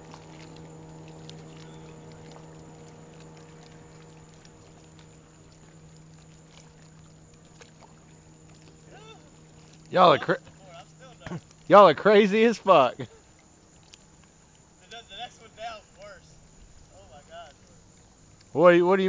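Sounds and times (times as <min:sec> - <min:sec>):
boat motor idling: 0:00.0 - 0:19.0
water lapping against hull: 0:00.0 - 0:19.0.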